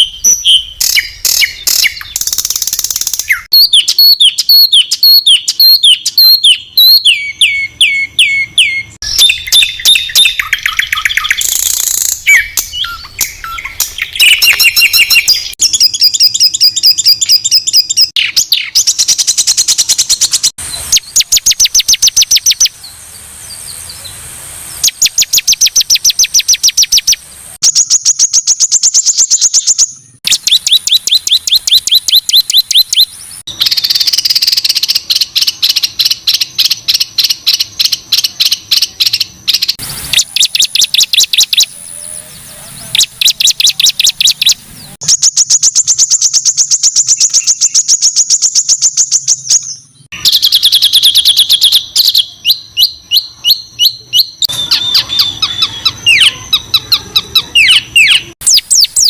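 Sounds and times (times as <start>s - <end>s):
songbird singing harsh phrases: 0.0s - 59.0s.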